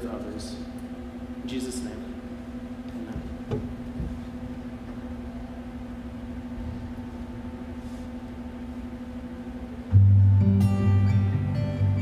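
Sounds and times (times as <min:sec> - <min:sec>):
low room rumble: 0:00.0 - 0:12.0
steady low hum: 0:00.0 - 0:12.0.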